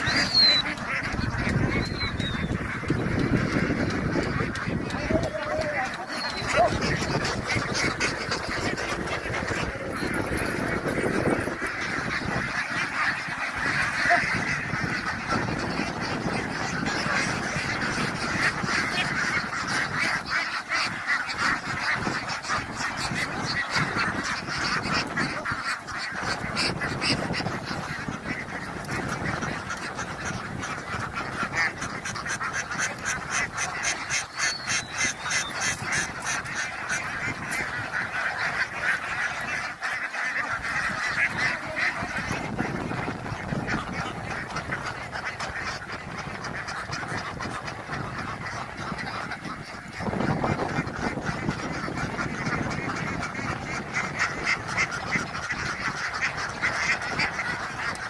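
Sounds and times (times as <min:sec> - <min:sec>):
flock of ducks quacking: 0:00.0 - 0:58.0.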